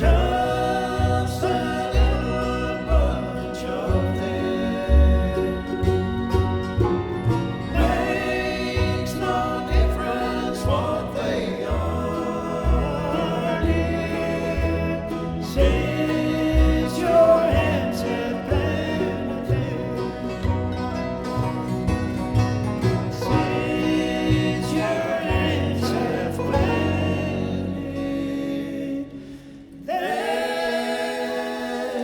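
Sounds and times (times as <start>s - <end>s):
live bluegrass band music: 0.0s - 31.8s.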